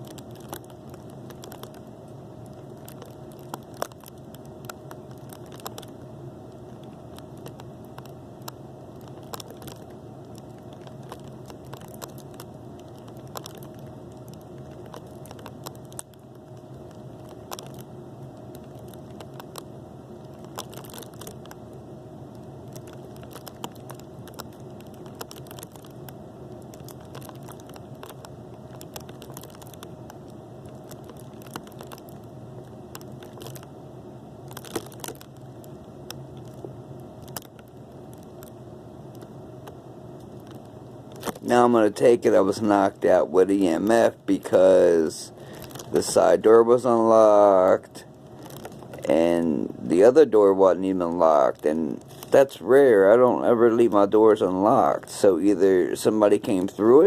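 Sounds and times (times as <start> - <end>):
low electrical hum: 0.0 - 57.0
small pops and crackles: 0.0 - 57.0.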